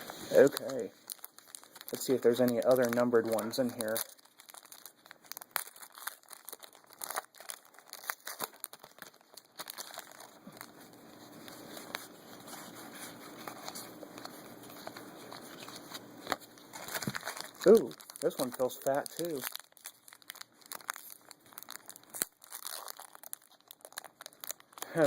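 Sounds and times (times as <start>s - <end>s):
trading cards rustling: 0.0s - 25.0s.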